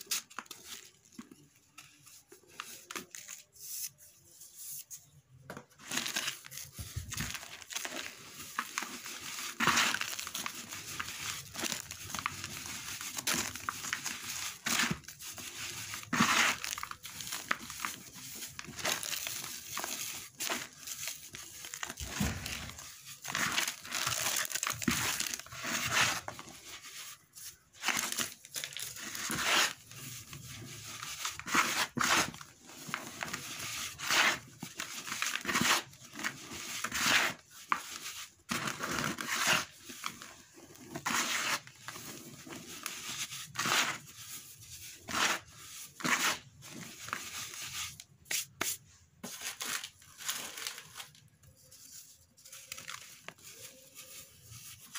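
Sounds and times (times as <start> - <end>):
sand and cement mix crunching: 5.8 - 51.0.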